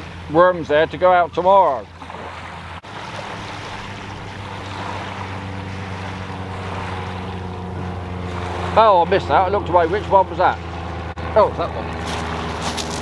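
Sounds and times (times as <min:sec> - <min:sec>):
wind and water hiss: 0:00.0 - 0:11.2
motorboat engine humming: 0:00.0 - 0:13.0.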